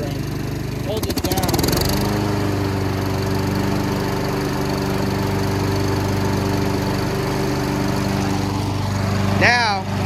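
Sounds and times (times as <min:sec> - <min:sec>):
lawn mower engine running: 0:00.0 - 0:10.0.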